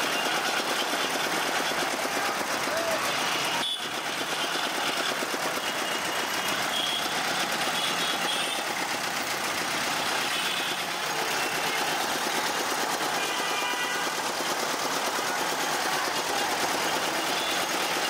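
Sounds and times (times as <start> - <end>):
sugarcane juice crusher running: 0.0 - 18.0.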